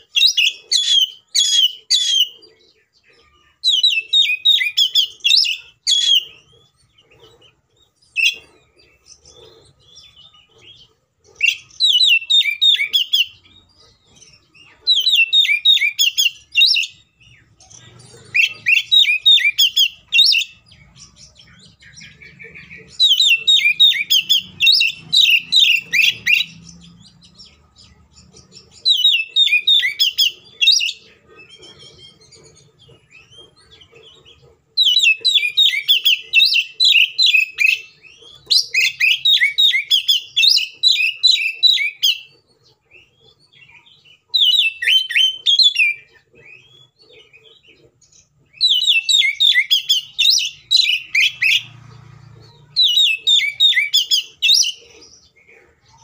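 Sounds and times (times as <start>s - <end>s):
bird singing whistled notes: 0.0s - 42.4s, 43.0s - 51.8s, 52.7s - 55.3s.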